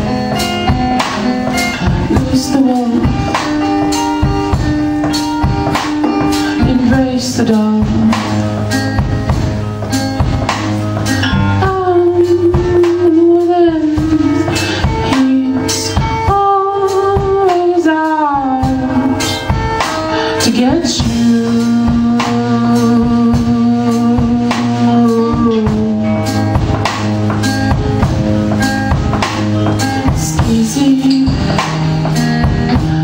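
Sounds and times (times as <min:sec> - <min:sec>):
drum kit beat: 0:00.0 - 0:33.0.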